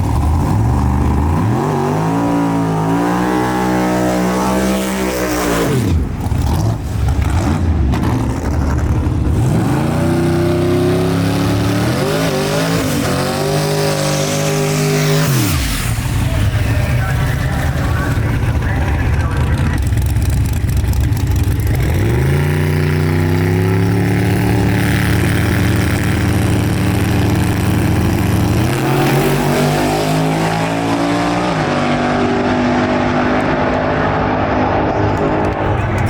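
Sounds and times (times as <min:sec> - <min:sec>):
drag race car engines at full throttle: 0:00.0 - 0:36.0.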